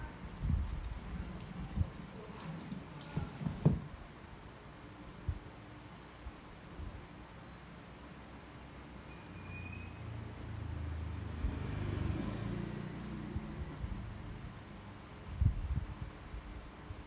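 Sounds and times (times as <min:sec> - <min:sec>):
background noise: 0:00.0 - 0:17.0.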